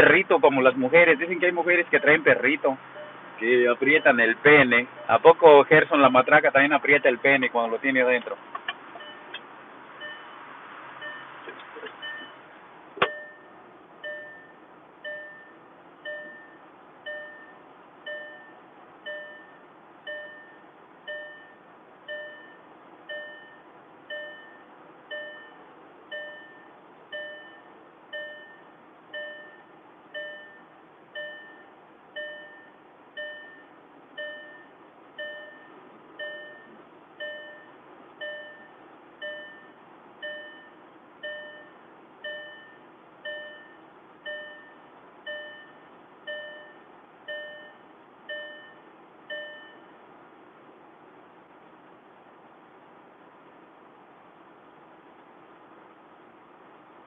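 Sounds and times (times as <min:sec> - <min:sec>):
dashboard warning chime: 0:00.0 - 0:03.2, 0:03.8 - 0:07.5, 0:09.0 - 0:09.4, 0:10.0 - 0:10.4, 0:11.0 - 0:11.4, 0:12.0 - 0:49.9.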